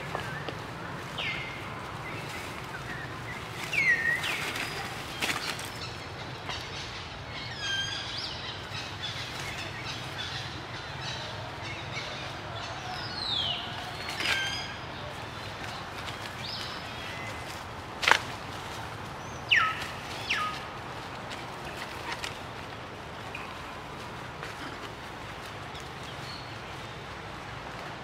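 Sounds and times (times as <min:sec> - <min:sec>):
scuffles and rustles: 0:00.0 - 0:06.8, 0:11.9 - 0:28.0.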